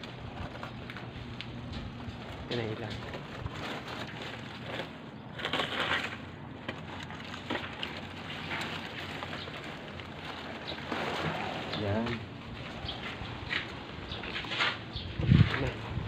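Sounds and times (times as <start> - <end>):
debris rustling and crunching: 0.0 - 16.0.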